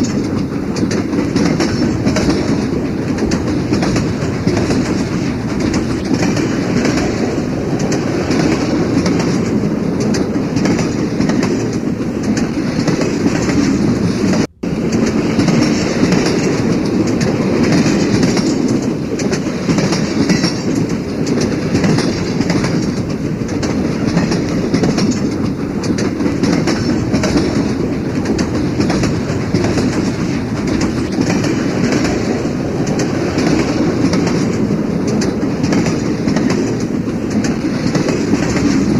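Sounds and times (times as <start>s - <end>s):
clickety-clack at rail joints: 0.0s - 38.9s
train wheels rumbling on track: 0.0s - 38.9s.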